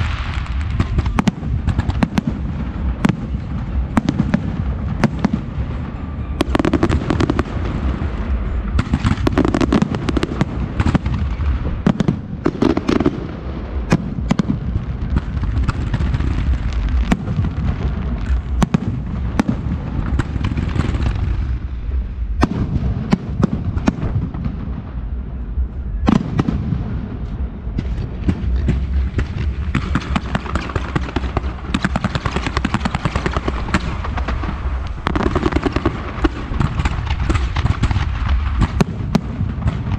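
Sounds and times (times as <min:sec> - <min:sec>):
continuous low rumble: 0:00.0 - 0:39.9
fireworks bangs: 0:00.0 - 0:39.9.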